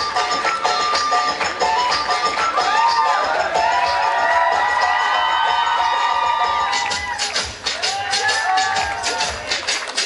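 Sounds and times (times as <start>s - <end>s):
dance music over speakers: 0.0s - 10.0s
audience cheering and shouting: 1.7s - 10.0s.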